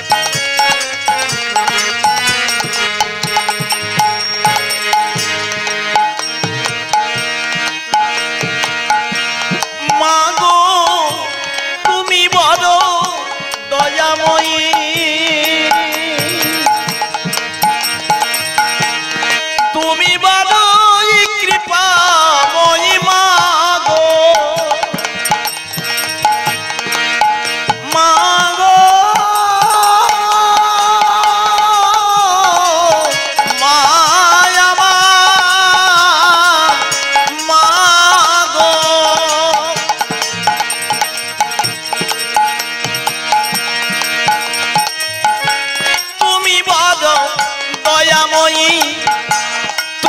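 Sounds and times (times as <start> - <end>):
hand drum: 0.0 - 49.8
held chords: 0.0 - 50.0
wavering lead melody: 0.0 - 50.0.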